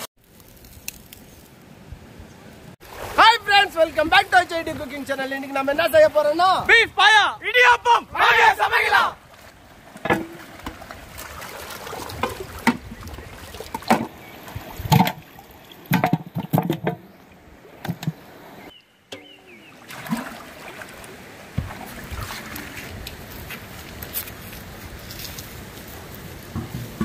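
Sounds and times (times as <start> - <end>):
shallow river running: 1.4 - 27.0.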